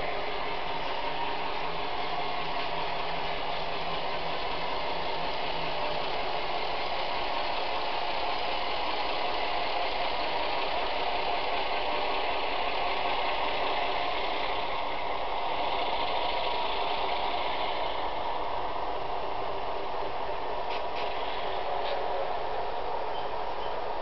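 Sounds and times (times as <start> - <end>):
diesel engine sound from speakers: 0.0 - 24.0
model train running on track: 0.0 - 24.0.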